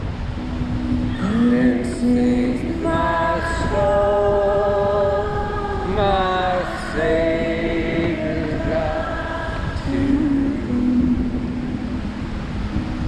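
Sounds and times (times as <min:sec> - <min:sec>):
low rushing noise: 0:00.0 - 0:13.0
person singing long notes: 0:00.7 - 0:12.2.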